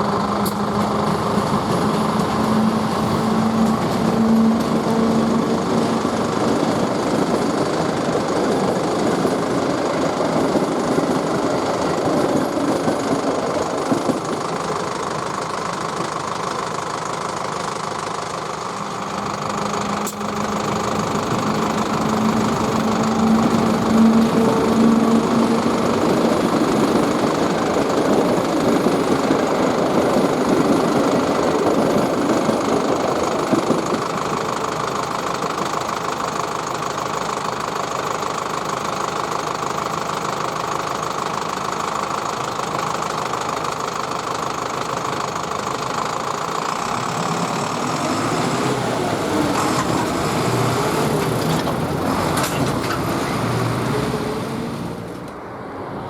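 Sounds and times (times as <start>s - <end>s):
train running over crossing: 0.0s - 56.0s.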